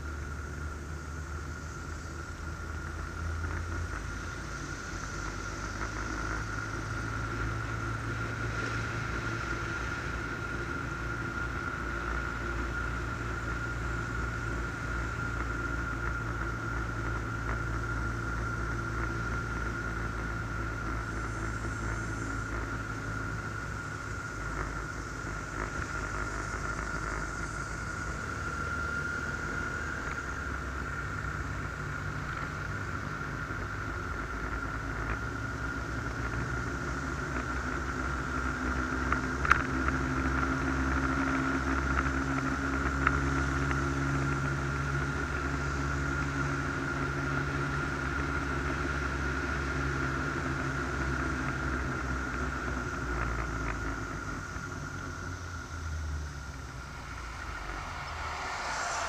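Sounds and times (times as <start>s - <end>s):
high whine: 0.0s - 59.0s
motorcycle engine cruising: 0.0s - 59.0s
road and wind noise: 0.0s - 59.0s.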